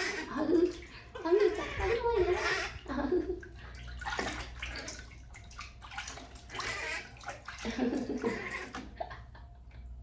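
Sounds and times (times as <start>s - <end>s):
water splashing: 0.0s - 9.0s.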